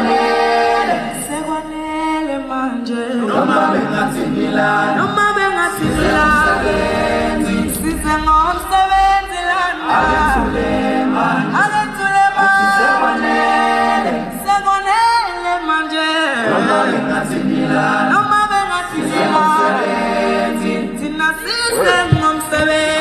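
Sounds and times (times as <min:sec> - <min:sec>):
a cappella group singing: 0:00.0 - 0:23.0.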